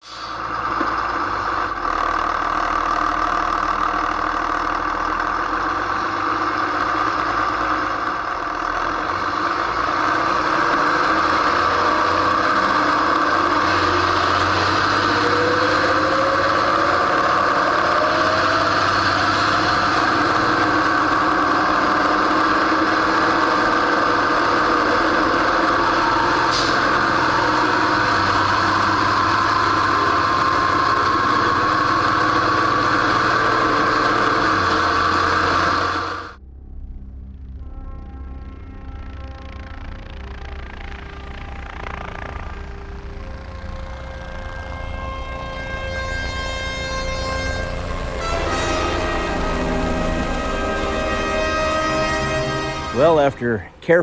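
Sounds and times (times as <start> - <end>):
truck diesel engine and tire noise: 0.0 - 54.0
faint rising whine: 2.8 - 53.8.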